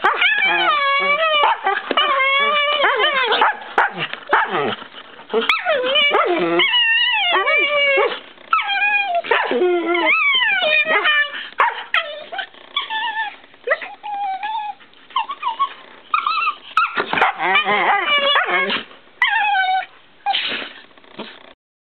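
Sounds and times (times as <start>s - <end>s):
dogs making play vocalizations: 0.0s - 21.4s.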